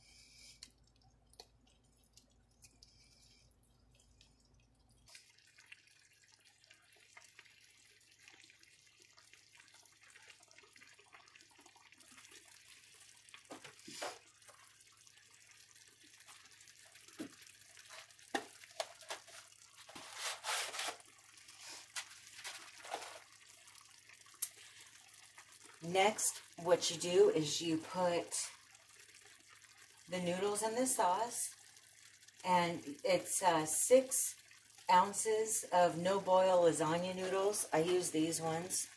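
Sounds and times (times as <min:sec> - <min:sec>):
sauce simmering with bubbling hiss: 0:00.0 - 0:38.9.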